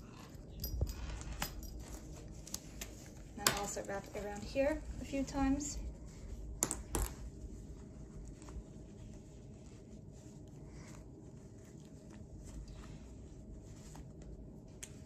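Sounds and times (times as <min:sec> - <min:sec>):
fabric strap rustling: 0:00.1 - 0:15.0.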